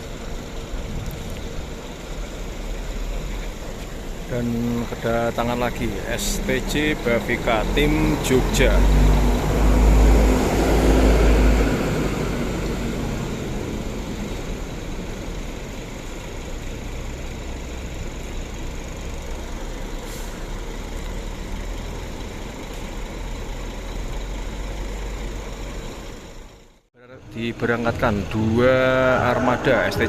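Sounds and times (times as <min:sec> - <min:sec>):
bus diesel engine rumble: 0:00.0 - 0:30.0.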